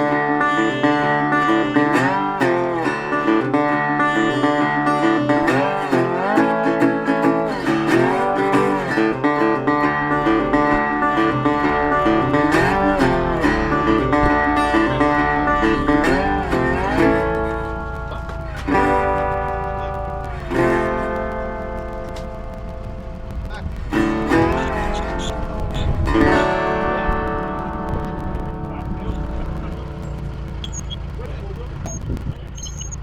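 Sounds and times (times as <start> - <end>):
country blues guitar music: 0.0 - 33.0.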